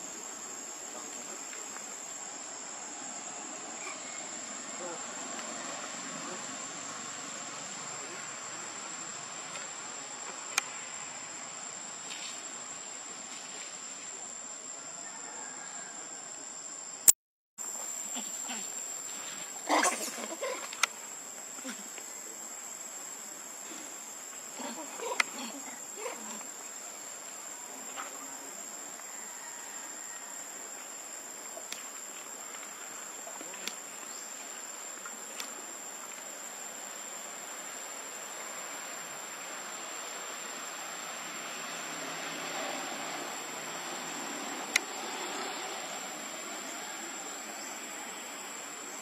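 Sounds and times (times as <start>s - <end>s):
insects droning: 0.0s - 49.0s
outdoor background hiss: 0.0s - 49.0s.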